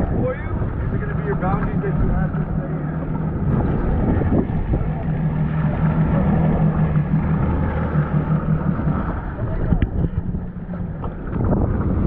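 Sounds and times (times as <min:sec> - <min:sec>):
jet ski engine idling: 0:00.0 - 0:12.0
wind on microphone: 0:00.0 - 0:12.0.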